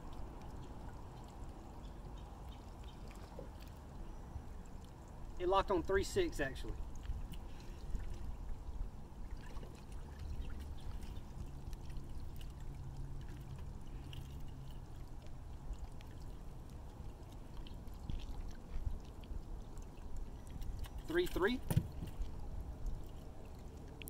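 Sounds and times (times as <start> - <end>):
water pouring and trickling: 0.0 - 24.0.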